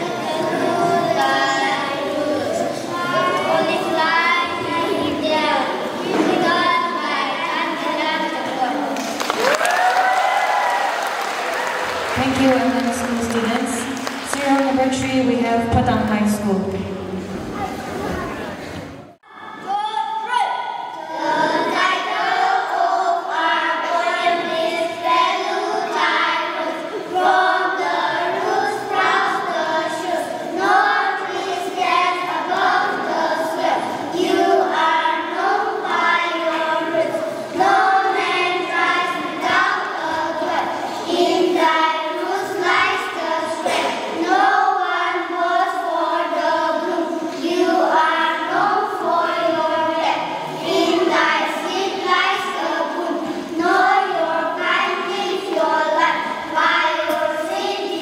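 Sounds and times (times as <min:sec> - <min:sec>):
children reciting in unison: 0:00.0 - 0:09.5, 0:17.5 - 0:58.0.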